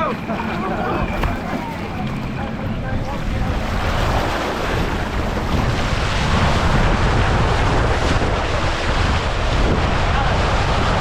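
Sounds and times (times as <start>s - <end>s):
water rushing on water slide: 0.0s - 11.0s
wind buffeting microphone: 0.0s - 11.0s.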